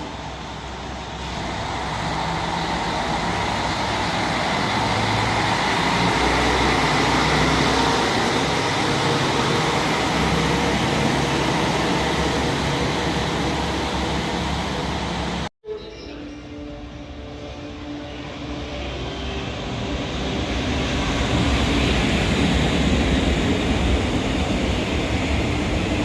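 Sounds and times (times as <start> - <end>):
train rushing: 0.0 - 26.0.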